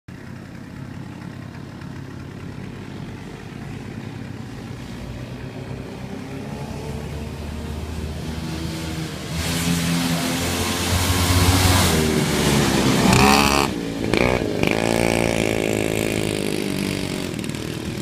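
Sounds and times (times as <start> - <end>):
two-stroke snowmobile engine running: 0.1 - 18.0.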